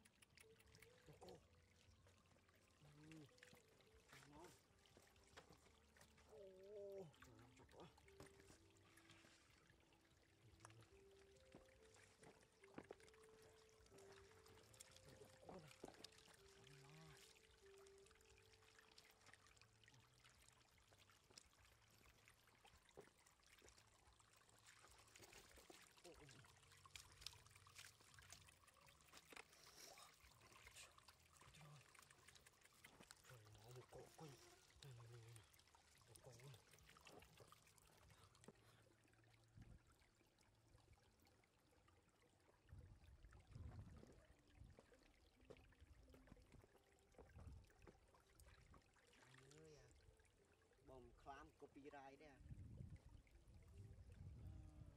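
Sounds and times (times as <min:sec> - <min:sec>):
water trickling over stones: 0:00.0 - 0:54.9.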